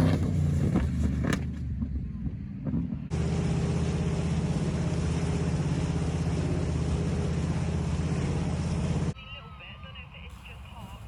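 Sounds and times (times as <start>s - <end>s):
loud engine running: 0.0s - 9.1s.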